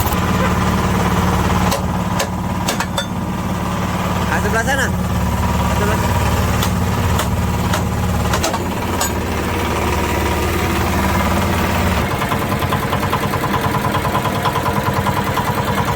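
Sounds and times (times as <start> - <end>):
hydraulic power unit running: 0.0 - 15.9.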